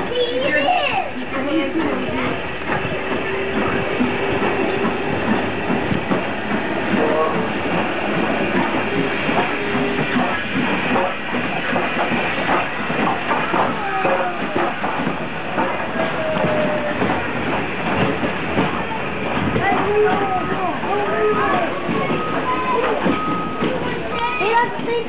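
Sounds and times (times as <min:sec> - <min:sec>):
steam locomotive steam: 0:00.0 - 0:25.0
train wheels on rails: 0:00.0 - 0:25.0.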